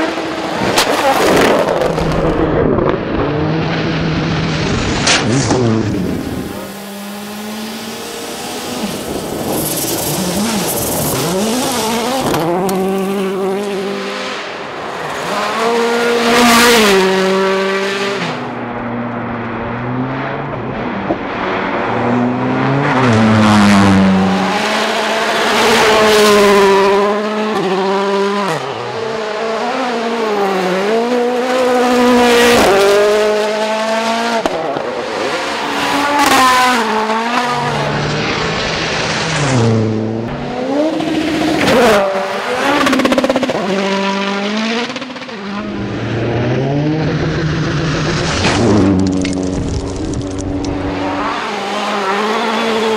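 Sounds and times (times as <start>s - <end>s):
rally car engines revving past: 0.0s - 52.9s.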